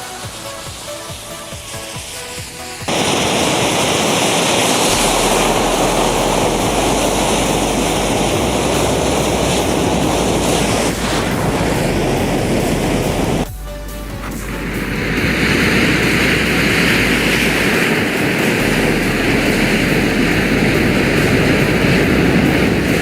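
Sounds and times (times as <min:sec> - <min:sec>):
matchsticks burning with a roar: 0:00.0 - 0:13.5, 0:14.2 - 0:23.0.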